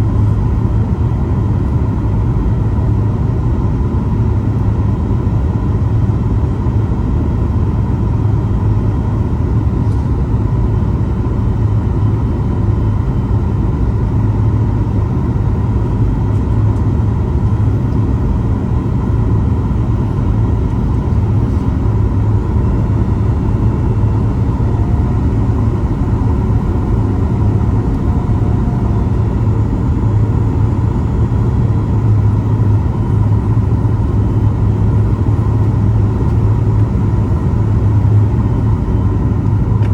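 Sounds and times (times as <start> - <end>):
airplane cabin low rumble: 0.0 - 39.9.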